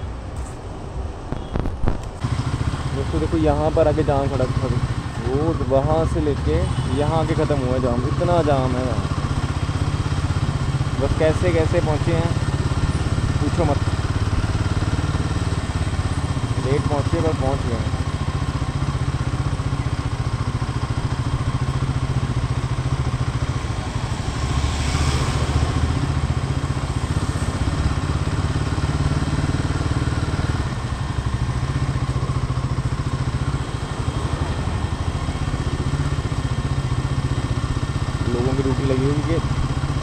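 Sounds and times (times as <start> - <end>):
motorcycle engine running: 2.2 - 40.0.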